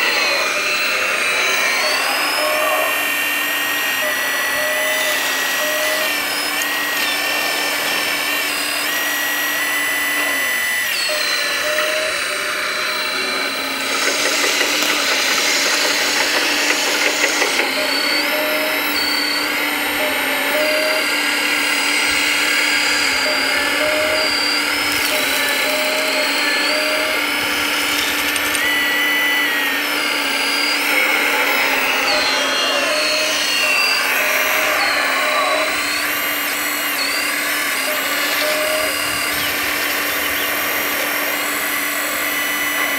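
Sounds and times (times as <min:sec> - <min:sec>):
electric motors whining: 0:00.0 - 0:42.9.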